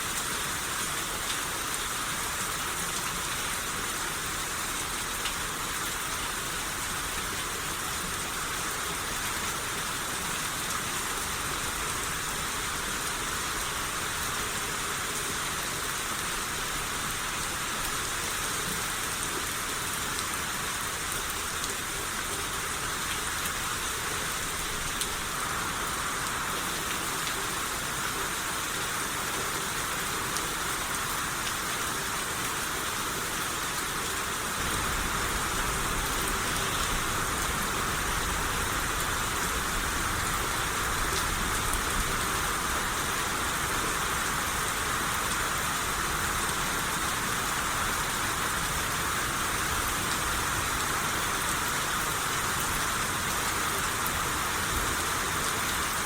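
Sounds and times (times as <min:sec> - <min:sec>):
rain shower hiss: 0:00.0 - 0:56.0.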